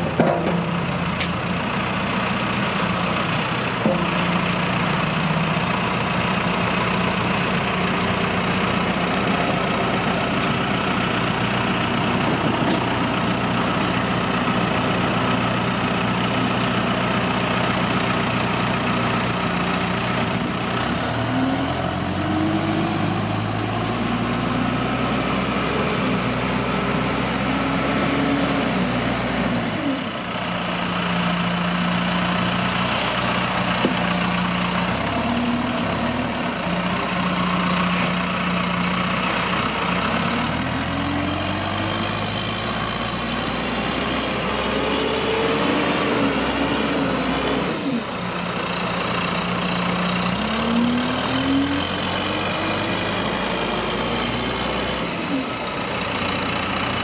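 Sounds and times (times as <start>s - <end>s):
diesel engine idling and revving: 0.0s - 57.0s.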